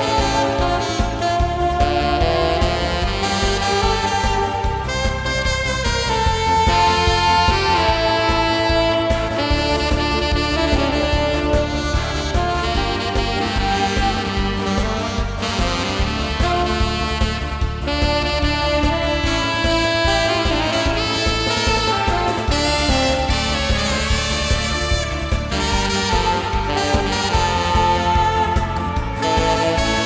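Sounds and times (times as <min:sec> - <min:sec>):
alto saxophone melody: 0:00.0 - 0:30.0
backing track with drum beat: 0:00.0 - 0:30.0.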